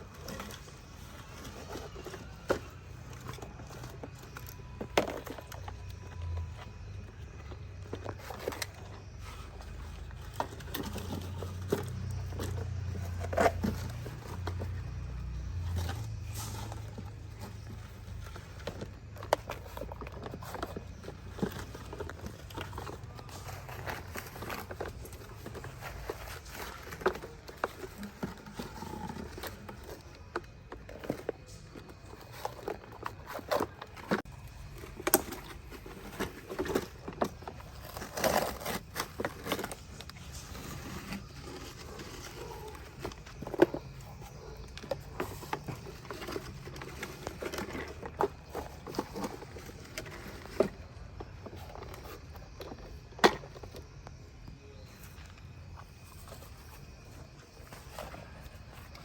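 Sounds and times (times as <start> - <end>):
toy vehicles clicking and knocking: 0.0 - 59.0.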